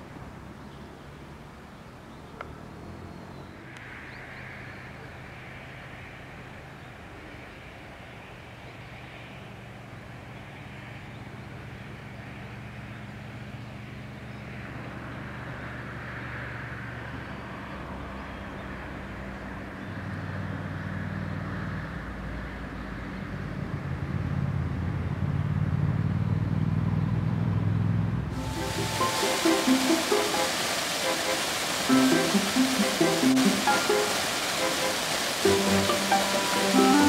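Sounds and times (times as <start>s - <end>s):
low engine hum with hiss: 0.0s - 37.0s.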